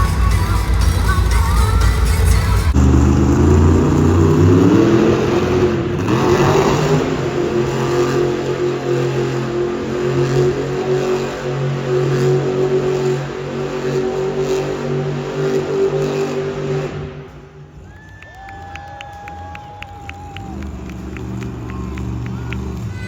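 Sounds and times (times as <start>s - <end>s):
monster truck engine revving: 0.0s - 17.8s, 19.4s - 23.0s.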